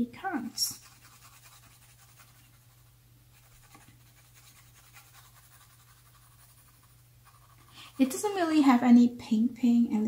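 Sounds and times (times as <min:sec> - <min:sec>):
low steady hum: 0:00.0 - 0:10.0
pencil scratching on paper: 0:00.2 - 0:08.6.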